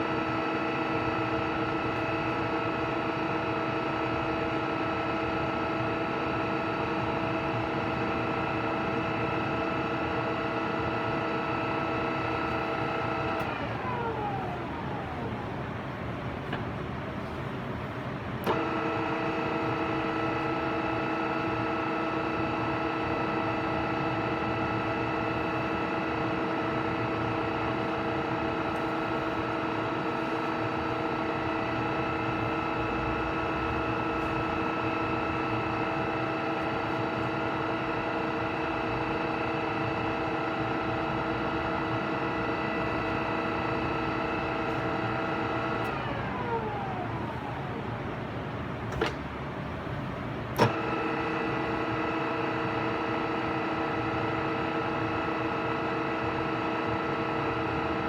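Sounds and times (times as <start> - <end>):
drilling machine gear whine: 0.0 - 16.0, 18.4 - 49.1, 50.5 - 58.0.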